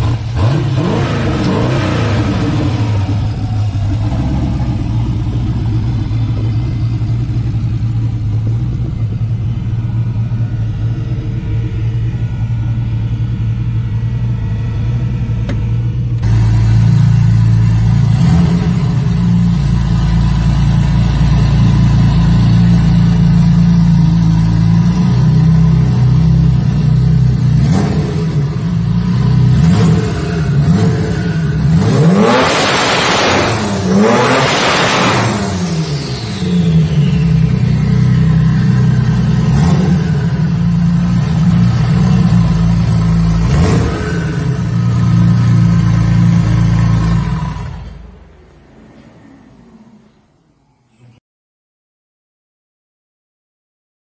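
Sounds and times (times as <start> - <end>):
engine revving: 0.0 - 8.6, 10.0 - 50.4
race car engine idling: 0.0 - 31.9, 35.5 - 50.8
car engine idling: 0.0 - 51.1.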